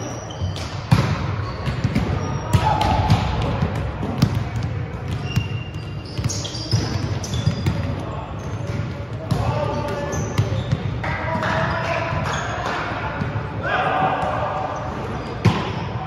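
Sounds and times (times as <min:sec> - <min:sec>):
sneaker squeaks: 0:00.0 - 0:03.2, 0:04.2 - 0:12.8, 0:14.7 - 0:16.0.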